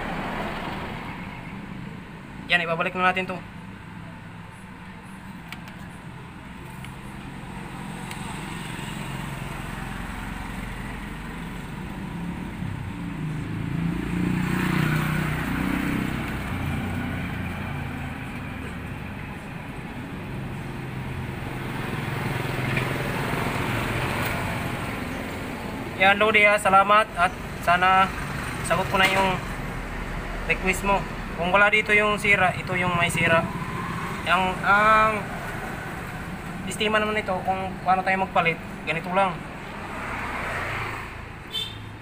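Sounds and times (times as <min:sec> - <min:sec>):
motor vehicle rumble: 0:03.5 - 0:42.0.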